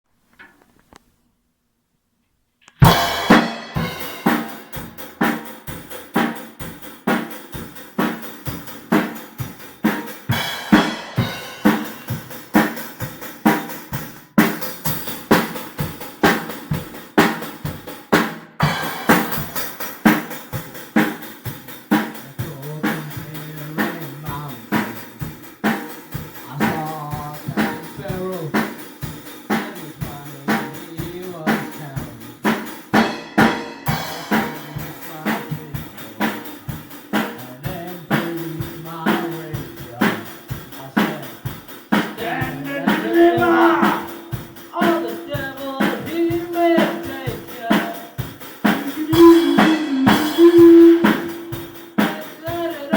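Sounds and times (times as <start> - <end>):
drum kit playing a steady beat: 2.8 - 52.9.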